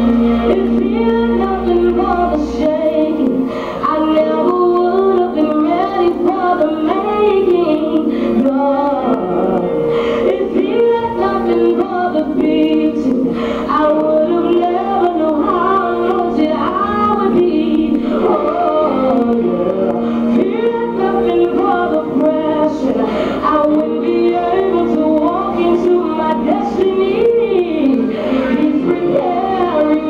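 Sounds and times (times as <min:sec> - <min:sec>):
sustained accompaniment chords: 0:00.0 - 0:30.0
woman singing: 0:00.0 - 0:30.0.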